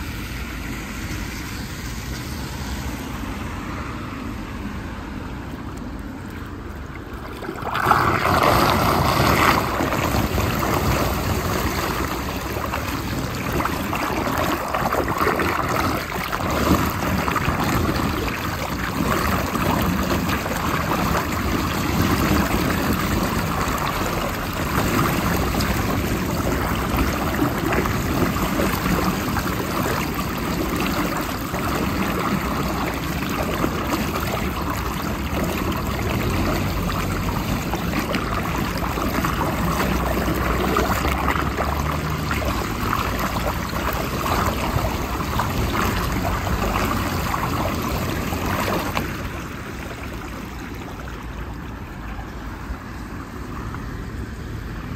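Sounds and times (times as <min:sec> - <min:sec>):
water rushing into drain: 0:00.0 - 0:54.9.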